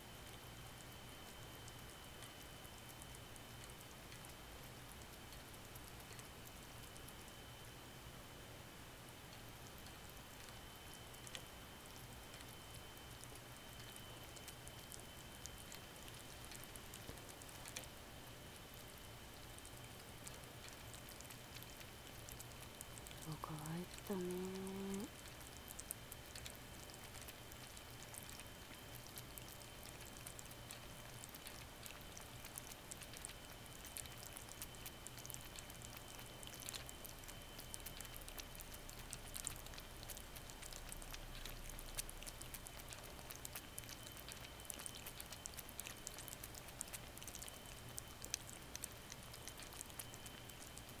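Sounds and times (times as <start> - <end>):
kitten licking water nozzle: 0.1 - 7.8, 9.2 - 51.0.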